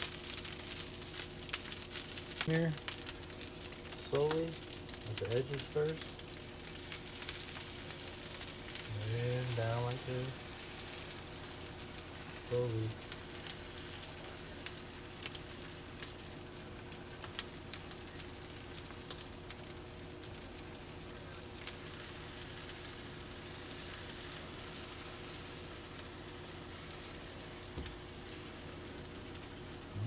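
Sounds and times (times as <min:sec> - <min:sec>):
faint steady hum: 0:00.0 - 0:30.0
food sizzling on a griddle: 0:00.0 - 0:30.0.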